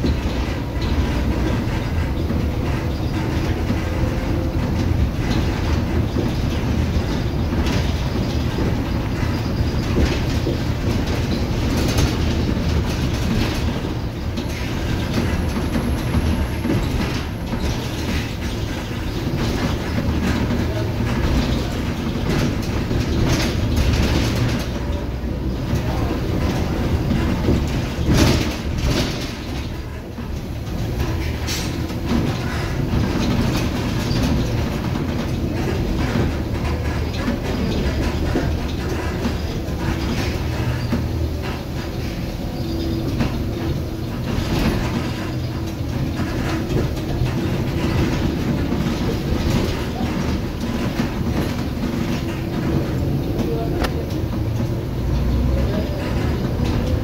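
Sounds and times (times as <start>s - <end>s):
bus engine rumble: 0.0s - 57.0s
knocks and rattles: 0.0s - 57.0s.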